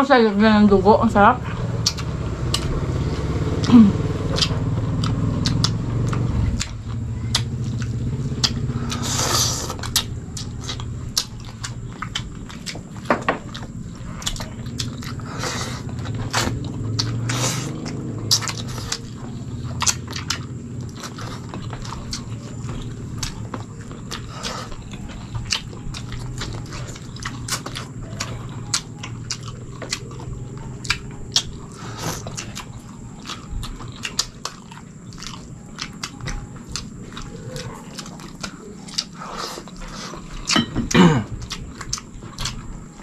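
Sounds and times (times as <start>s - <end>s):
chewing and mouth smacks: 1.4s - 43.0s.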